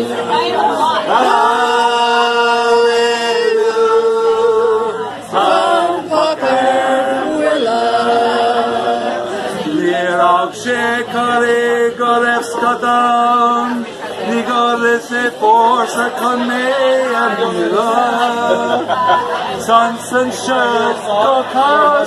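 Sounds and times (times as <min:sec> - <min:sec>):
group singing unaccompanied: 0:00.0 - 0:22.0.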